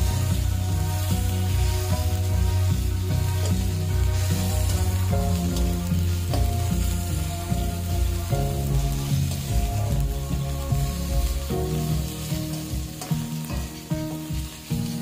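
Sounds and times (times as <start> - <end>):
background music: 0.0 - 15.0
masala sizzling in a pan: 0.0 - 15.0
spatula scraping pan: 0.0 - 15.0.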